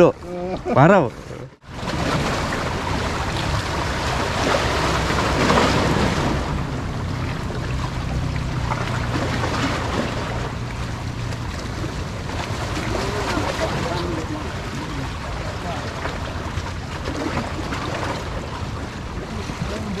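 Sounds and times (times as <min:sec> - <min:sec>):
low steady hum: 0:00.0 - 0:20.0
sea water at shoreline: 0:00.0 - 0:20.0
wind: 0:00.0 - 0:20.0.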